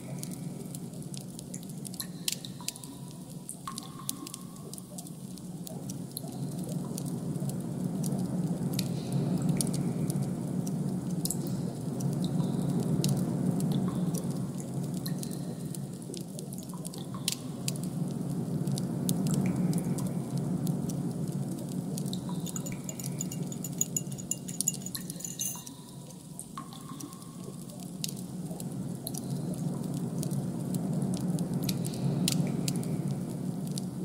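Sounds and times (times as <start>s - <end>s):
low steady noise bed: 0.0s - 34.0s.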